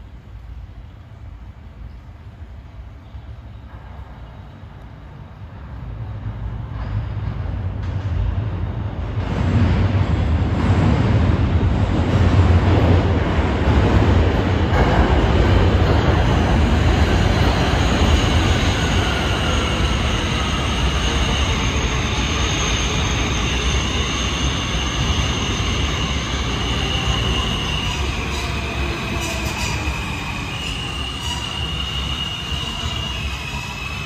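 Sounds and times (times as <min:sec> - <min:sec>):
subway train rumble: 0:00.0 - 0:34.0.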